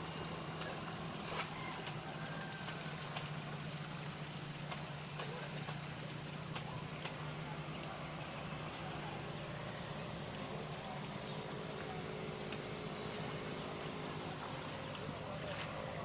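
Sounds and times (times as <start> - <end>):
constant wash of noise: 0.0 - 16.0
low engine drone: 0.0 - 16.0.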